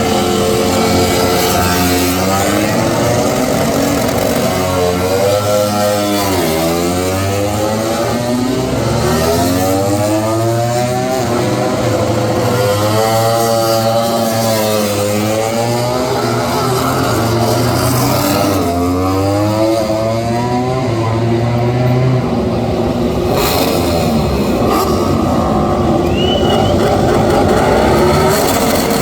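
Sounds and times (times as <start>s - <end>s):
racing motorcycles passing: 0.0s - 29.0s.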